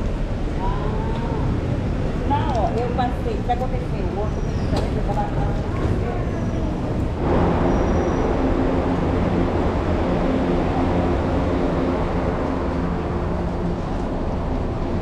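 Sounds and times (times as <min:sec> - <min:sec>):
metro train rumble and hum: 0:00.0 - 0:15.0.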